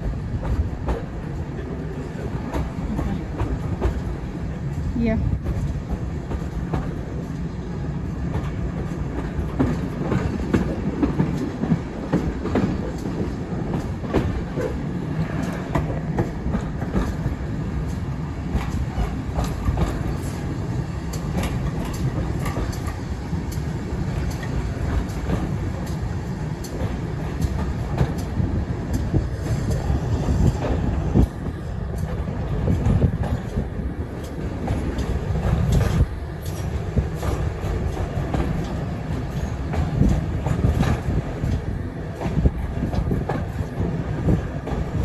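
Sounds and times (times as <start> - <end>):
train rumbling on track: 0.0 - 45.0
wheels clicking over rail joints: 8.3 - 45.0.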